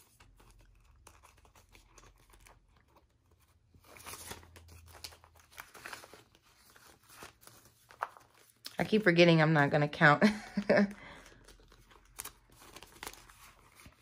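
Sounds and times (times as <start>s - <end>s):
plastic binder pocket crinkling: 0.0s - 9.0s, 11.1s - 14.0s
paper banknotes rustling: 0.0s - 9.1s, 10.6s - 14.0s.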